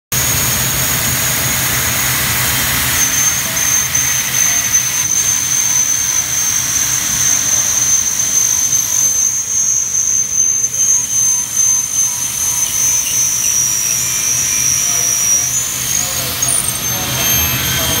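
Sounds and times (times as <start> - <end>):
machine drilling into metal: 0.2 - 18.0.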